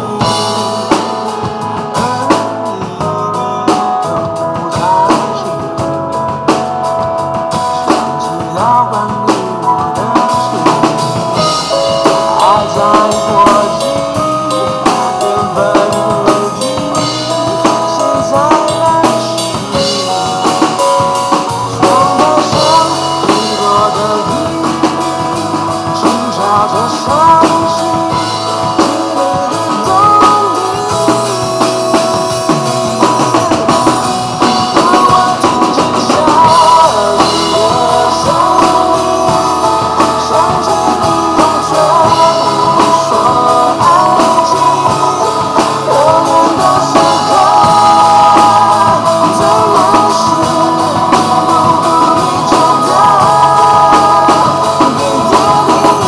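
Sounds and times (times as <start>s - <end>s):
drum kit played with sticks: 0.0s - 56.0s
pop backing track: 0.0s - 56.0s.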